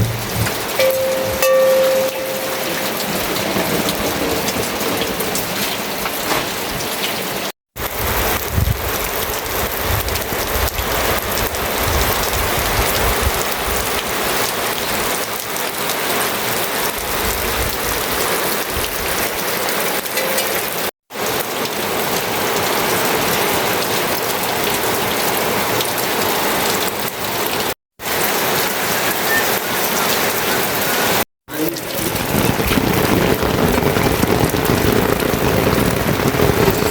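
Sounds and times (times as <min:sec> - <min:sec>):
heavy rain pattering: 0:00.0 - 0:36.9.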